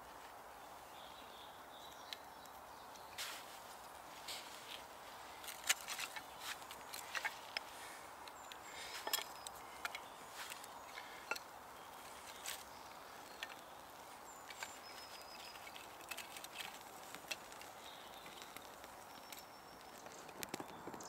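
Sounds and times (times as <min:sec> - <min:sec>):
high bird calls: 0:00.6 - 0:21.0
fire crackling: 0:01.8 - 0:21.0
kindling sticks clicking and knocking: 0:01.9 - 0:21.0.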